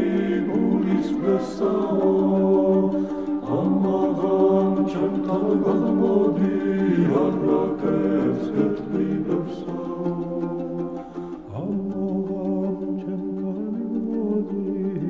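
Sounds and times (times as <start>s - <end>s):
a cappella choir singing: 0.0s - 15.0s.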